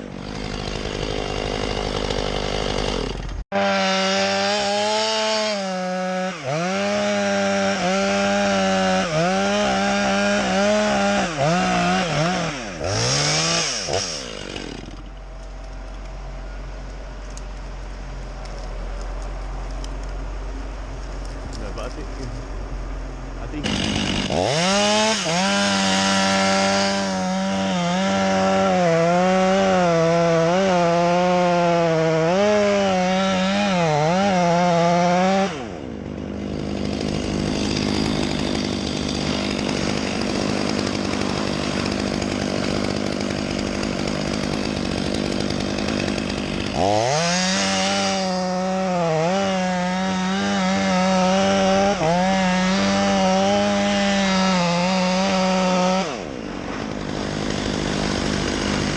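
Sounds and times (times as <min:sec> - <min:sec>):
chainsaw cutting wood: 0:00.0 - 0:16.2, 0:23.4 - 0:58.9.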